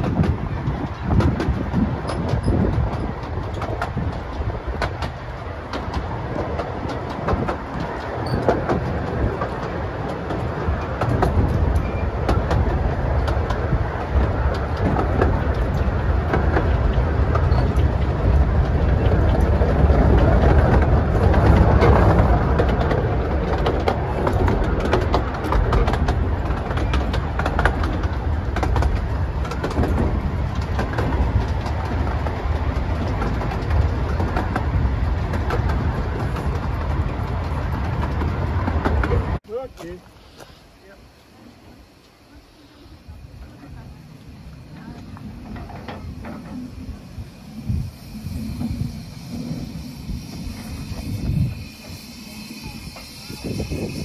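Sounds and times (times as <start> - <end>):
train wheels rumbling and clicking: 0.0 - 54.0.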